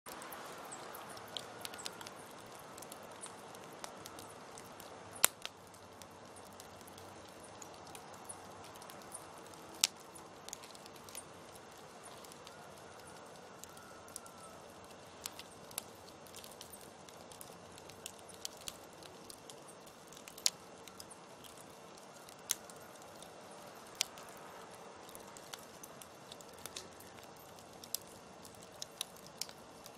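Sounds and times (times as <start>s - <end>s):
campfire crackling and popping: 0.1s - 29.9s
faint steady hum: 0.1s - 29.9s
hiss of burning: 0.1s - 29.9s.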